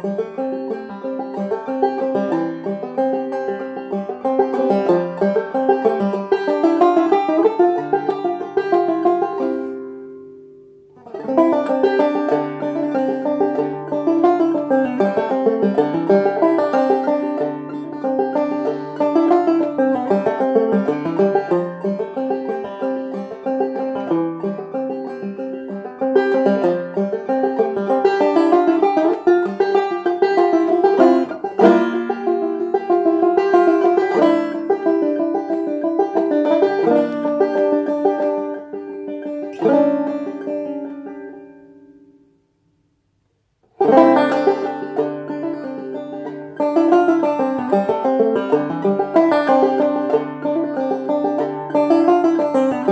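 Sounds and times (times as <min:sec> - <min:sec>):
banjo playing: 0:00.0 - 0:42.6, 0:43.6 - 0:52.9.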